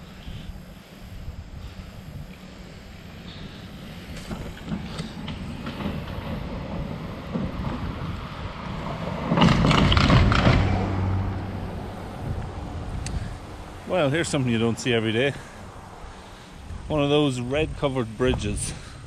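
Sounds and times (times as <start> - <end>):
tyres rumbling on wooden bridge: 2.8 - 19.0.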